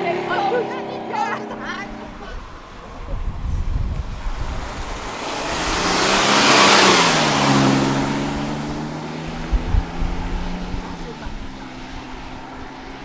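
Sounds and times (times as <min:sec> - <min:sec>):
car driving past: 0:01.8 - 0:12.9.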